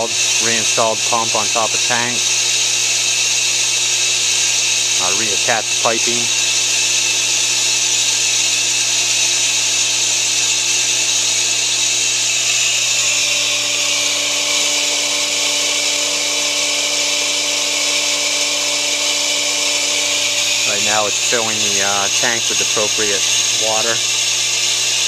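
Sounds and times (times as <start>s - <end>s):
water hissing: 0.0s - 25.0s
well pump motor humming: 0.0s - 25.0s.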